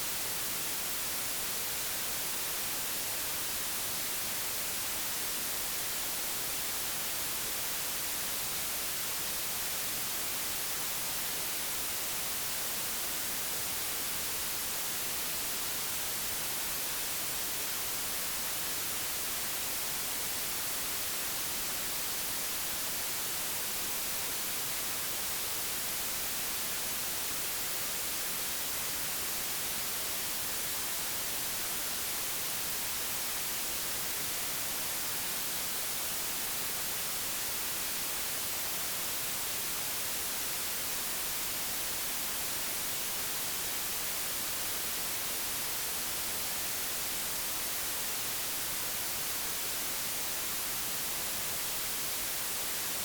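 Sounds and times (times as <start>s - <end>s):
white noise hiss: 0.0s - 53.0s.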